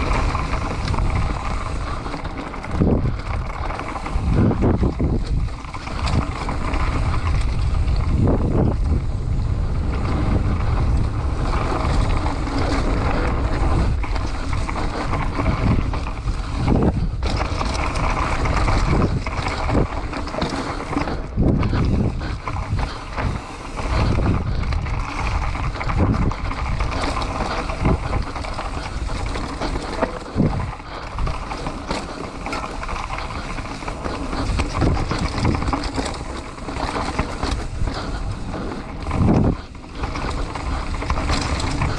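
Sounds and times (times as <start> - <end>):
bike knocks and rattles: 0.0 - 41.9
wind rushing over microphone: 0.0 - 41.9.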